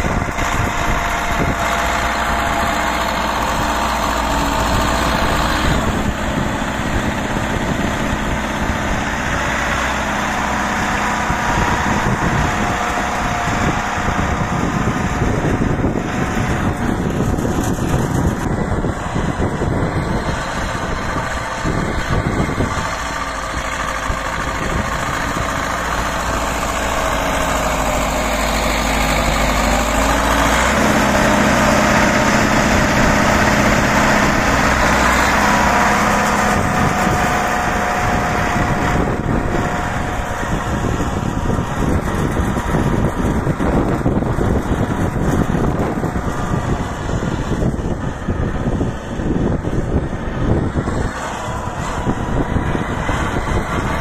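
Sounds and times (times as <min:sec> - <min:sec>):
diesel tractor engine under load: 0:00.0 - 0:54.0.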